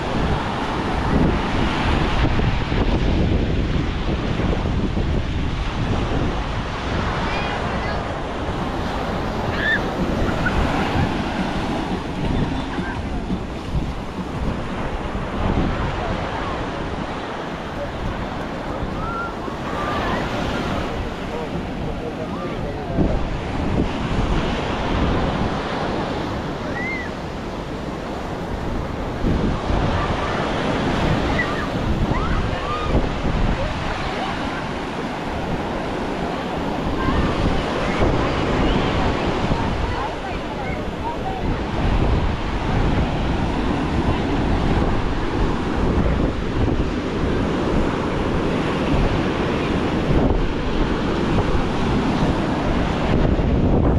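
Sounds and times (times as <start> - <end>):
surf washing onto beach: 0.0 - 53.9
wind buffeting microphone: 0.0 - 53.9.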